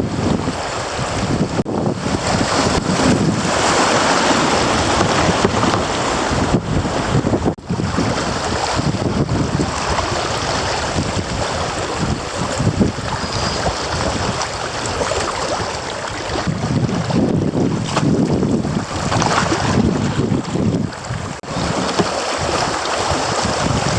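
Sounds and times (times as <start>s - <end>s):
creek water rushing: 0.0s - 23.9s
wind buffeting microphone: 0.0s - 23.9s.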